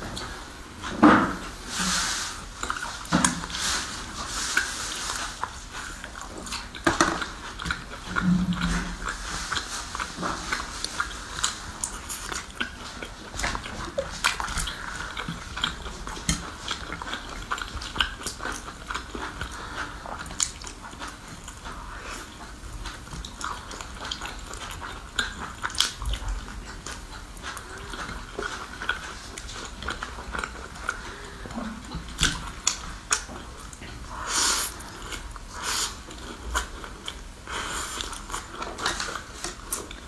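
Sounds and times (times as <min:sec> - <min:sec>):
close chewing of meat: 0:00.0 - 0:40.0.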